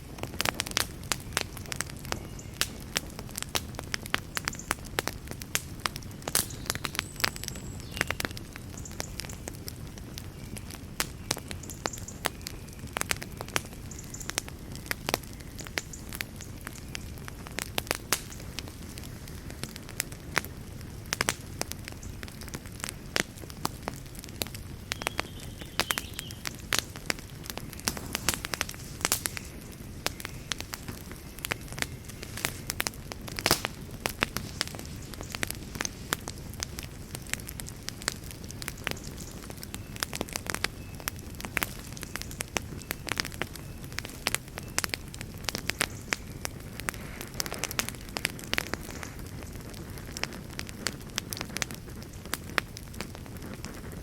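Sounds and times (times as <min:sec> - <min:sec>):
burning wood crackling and popping: 0:00.0 - 0:54.0
low rumble of flames: 0:00.0 - 0:54.0.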